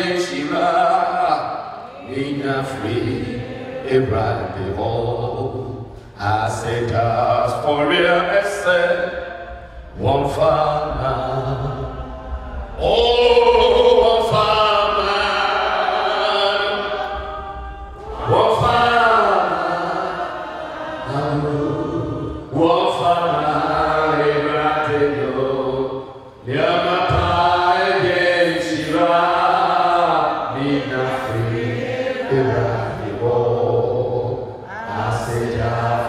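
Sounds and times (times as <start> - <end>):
voices singing together: 0.0 - 36.0.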